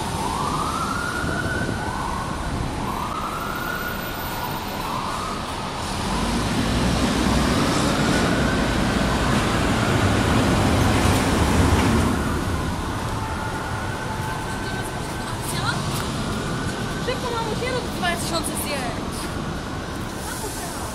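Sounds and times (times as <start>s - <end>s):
fire engine siren wailing: 0.0s - 20.9s
truck engine rumble: 0.0s - 20.9s.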